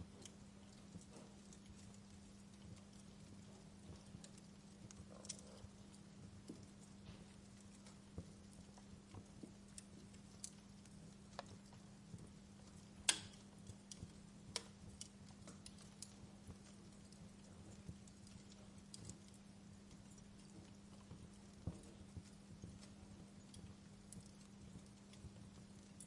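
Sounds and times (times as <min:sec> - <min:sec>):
low steady hum: 0:00.0 - 0:26.0
wood fire crackling: 0:00.0 - 0:26.0.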